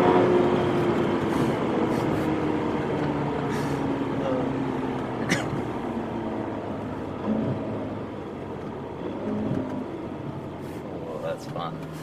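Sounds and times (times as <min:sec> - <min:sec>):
car engine running: 0:00.0 - 0:12.0
tyre and road noise: 0:00.0 - 0:12.0.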